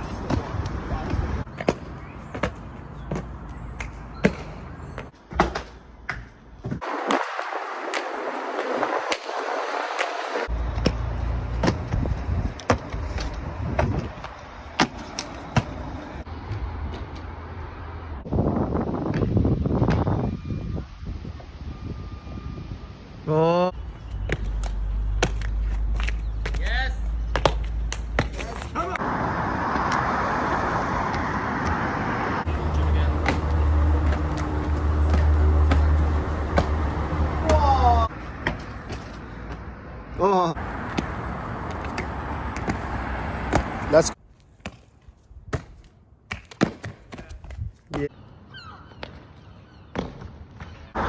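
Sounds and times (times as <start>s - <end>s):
traffic noise: 0.0s - 51.0s.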